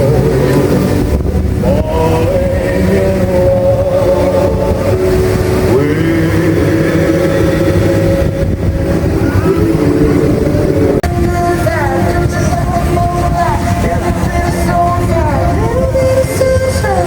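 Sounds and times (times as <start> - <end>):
jet ski engine revving: 0.0 - 17.0.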